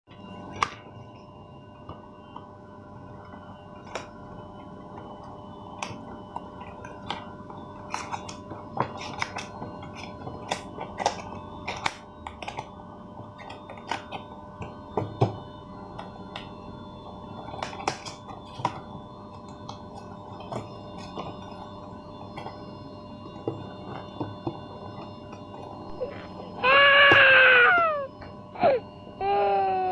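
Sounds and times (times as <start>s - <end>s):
faint steady hum: 0.1s - 29.9s.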